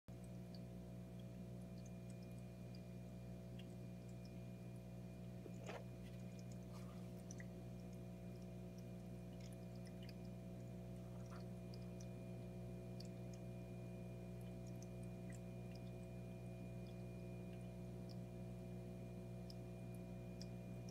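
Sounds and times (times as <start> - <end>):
aquarium equipment humming: 0.1 - 20.9.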